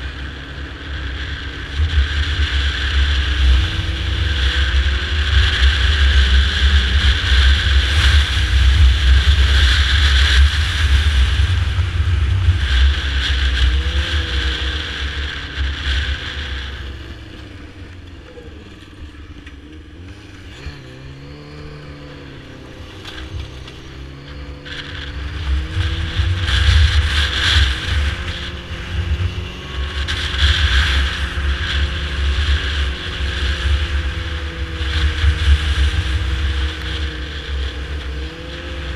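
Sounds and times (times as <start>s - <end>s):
snowmobile engine and track: 0.0s - 38.9s.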